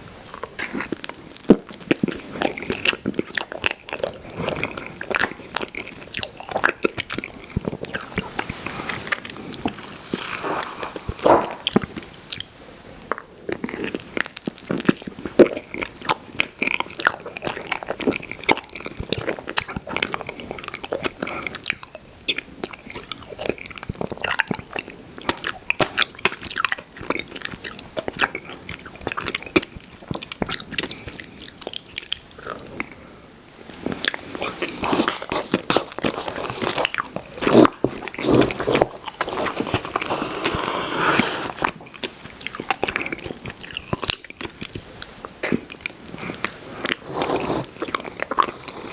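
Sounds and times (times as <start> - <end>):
chewing ice cream: 0.2 - 33.1, 33.8 - 48.9.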